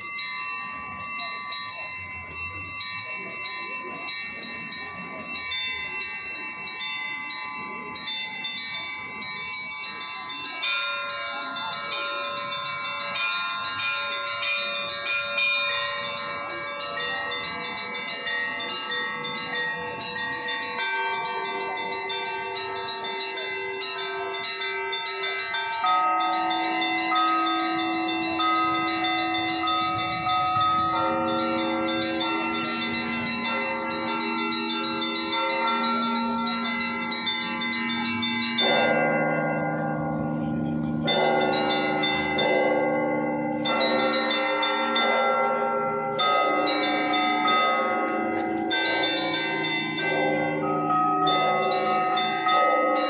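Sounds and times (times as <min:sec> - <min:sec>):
church bells pealing: 0:00.0 - 0:53.0
deep large bells: 0:00.0 - 0:53.0.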